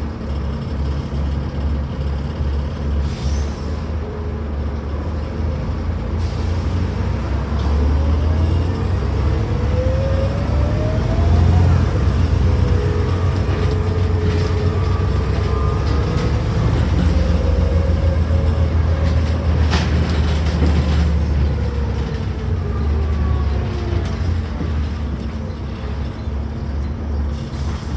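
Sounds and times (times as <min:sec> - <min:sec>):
bus engine drone with whine: 0:00.0 - 0:27.9.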